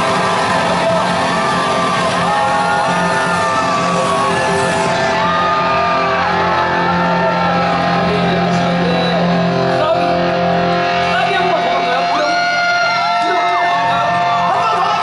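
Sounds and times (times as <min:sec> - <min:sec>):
live rock band sustained chords: 0:00.0 - 0:14.4
crowd shouting and whooping: 0:00.0 - 0:15.0.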